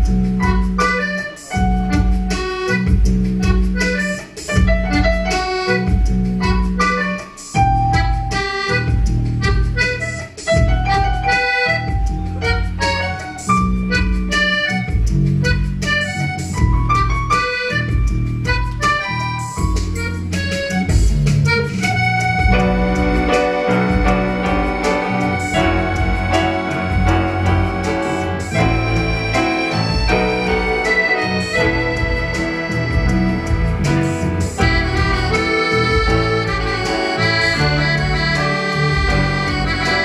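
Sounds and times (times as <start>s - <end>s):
electric bass guitar: 0.0s - 40.0s
keyboard: 0.0s - 40.0s
piano accordion: 0.0s - 40.0s.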